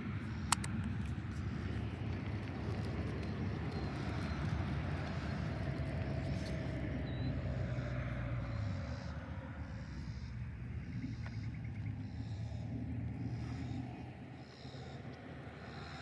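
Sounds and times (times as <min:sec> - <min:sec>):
distant engine droning: 0:00.0 - 0:16.0.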